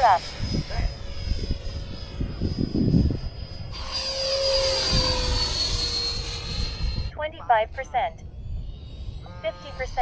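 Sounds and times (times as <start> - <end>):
rc jet fan whining: 0.0 - 10.0
wind buffeting microphone: 0.0 - 10.0.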